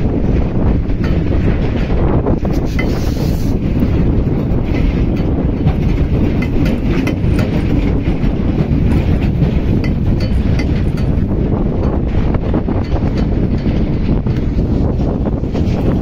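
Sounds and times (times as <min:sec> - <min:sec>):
rail joint clicks: 0:00.0 - 0:16.0
train wheels rumbling on rails: 0:00.0 - 0:16.0.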